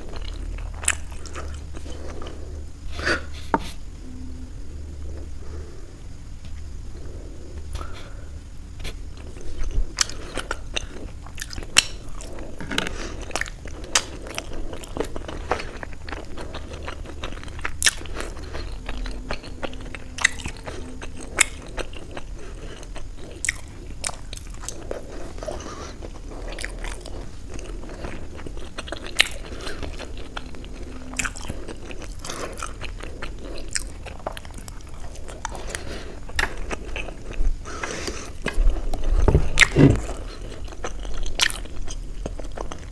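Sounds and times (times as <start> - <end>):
person chewing: 0.0 - 3.8, 8.8 - 42.9.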